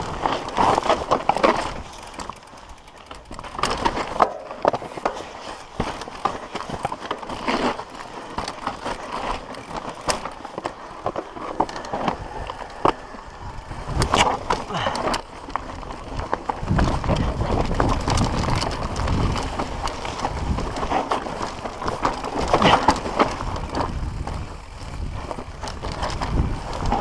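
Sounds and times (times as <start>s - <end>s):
bike rattling and knocking: 0.0s - 27.0s
bike tyres rolling over dirt: 0.0s - 27.0s.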